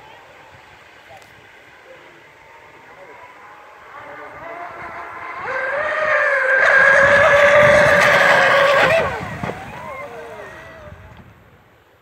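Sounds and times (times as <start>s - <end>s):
high-pitched motor whine: 1.7s - 11.4s.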